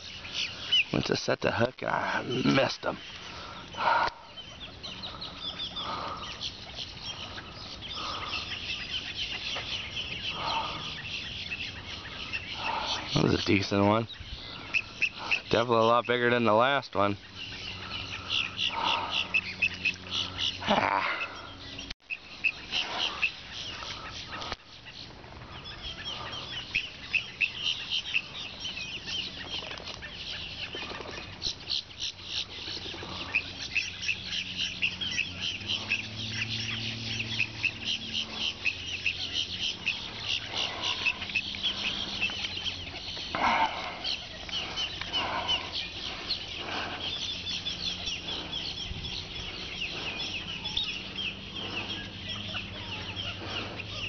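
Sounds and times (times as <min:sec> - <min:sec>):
birds chattering: 0:00.0 - 0:54.0
louder low bird calls: 0:00.0 - 0:54.0.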